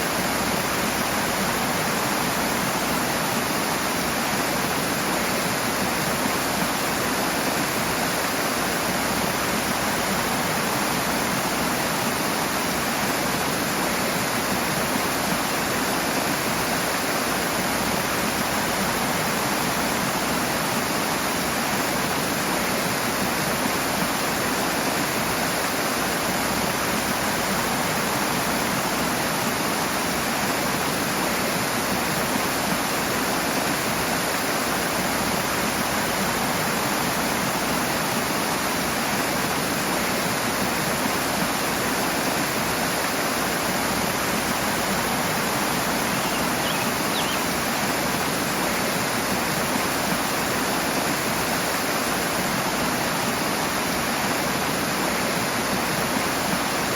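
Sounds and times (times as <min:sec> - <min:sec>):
fast-flowing water rushing: 0:00.0 - 0:56.9.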